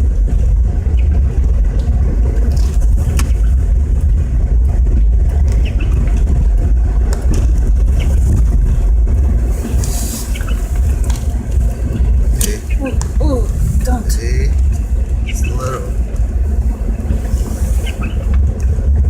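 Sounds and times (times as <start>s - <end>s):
car driving through snow: 0.0s - 19.0s.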